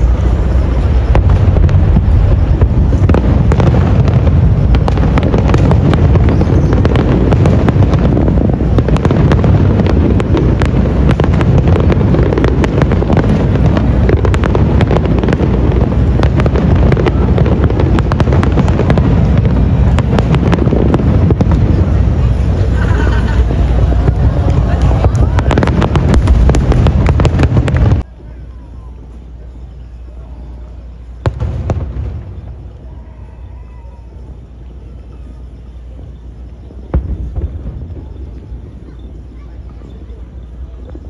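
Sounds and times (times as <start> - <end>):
fireworks bursting: 0.0 - 41.0
fireworks crackling: 0.0 - 41.0.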